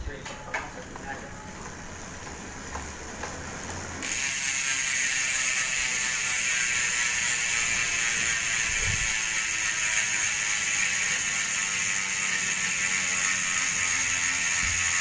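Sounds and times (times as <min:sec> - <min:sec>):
bicycle hub pawls ratcheting: 0:01.7 - 0:15.0.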